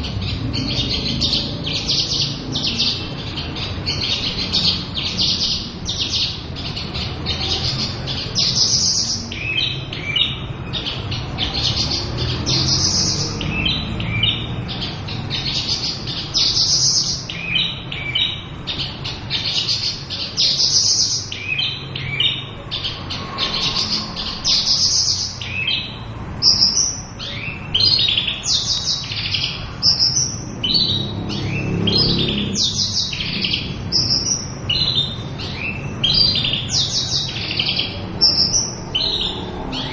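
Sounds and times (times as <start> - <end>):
lark singing: 0.0 - 39.9.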